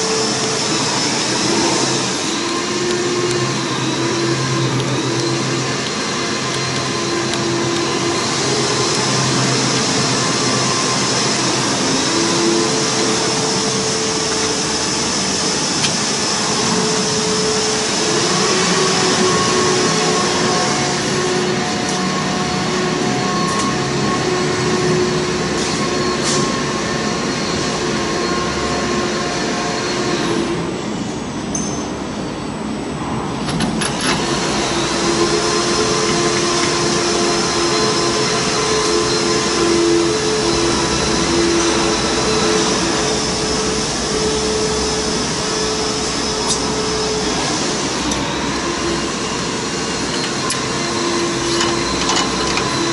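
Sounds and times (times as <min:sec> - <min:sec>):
machine hums: 0:00.0 - 0:52.9
workshop machinery whirring: 0:00.0 - 0:52.9.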